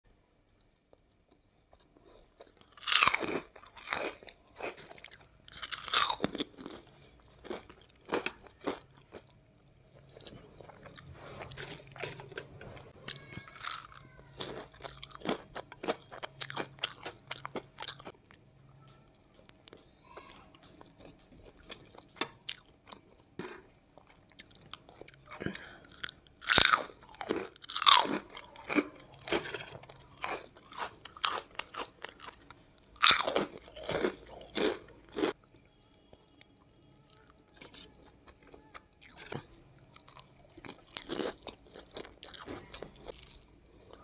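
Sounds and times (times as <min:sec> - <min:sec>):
crunchy chewing: 0:00.6 - 0:44.0.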